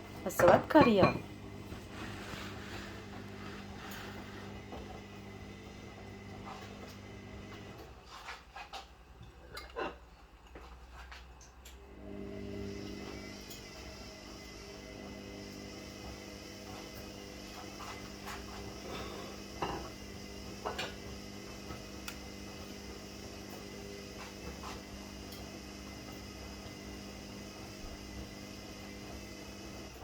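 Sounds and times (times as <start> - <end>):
pot simmering hum: 0.0 - 30.0.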